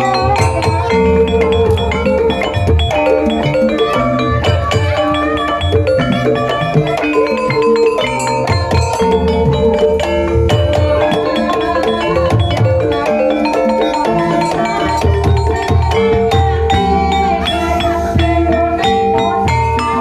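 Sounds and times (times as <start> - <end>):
low drum beats: 0.0 - 20.0
metallophone melody: 0.0 - 20.0.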